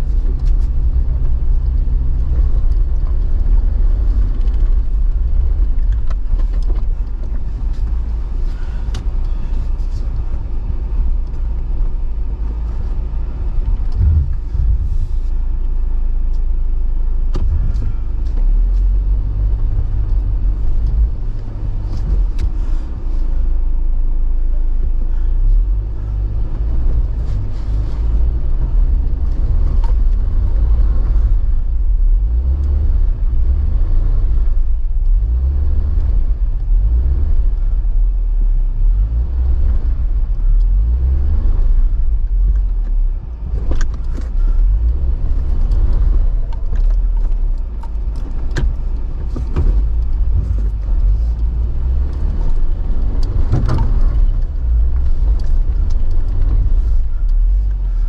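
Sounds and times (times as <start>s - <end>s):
car engine at low revs: 0.0s - 58.0s.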